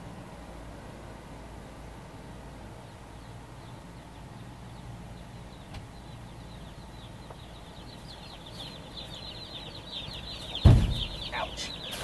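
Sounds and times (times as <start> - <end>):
electric fan humming: 0.0 - 12.0
chicks peeping: 2.1 - 12.0.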